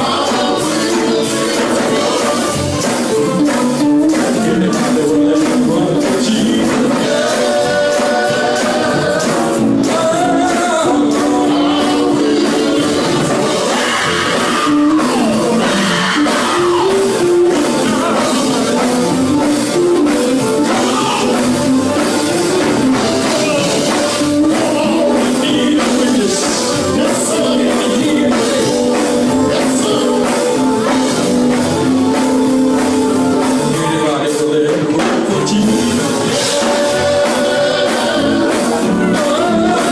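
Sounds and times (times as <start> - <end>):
band with steady beat: 0.0 - 39.9
gospel choir singing: 0.0 - 39.9.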